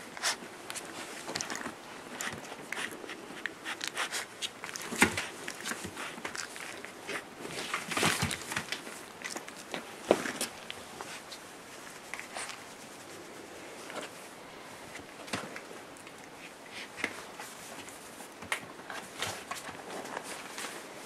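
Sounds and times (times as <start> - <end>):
puppies rustling on newspaper: 0.0 - 21.0.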